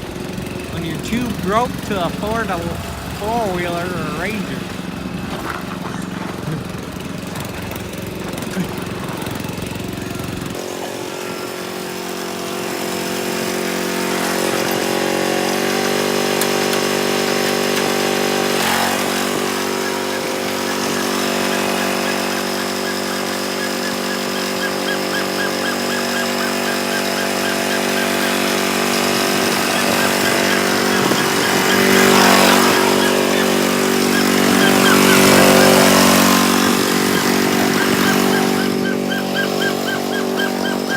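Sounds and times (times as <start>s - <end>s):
riding lawn mower engine: 0.0s - 40.9s.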